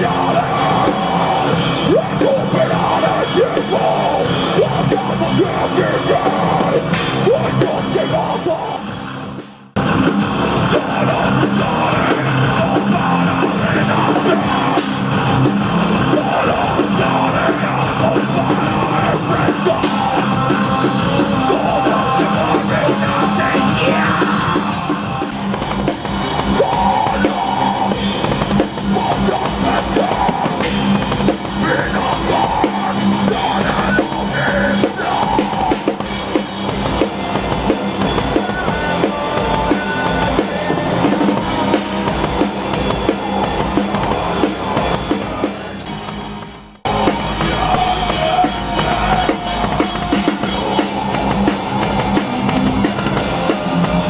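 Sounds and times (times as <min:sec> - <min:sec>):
driving drum kit: 0:00.0 - 0:54.0
live rock band playing: 0:00.0 - 0:54.0.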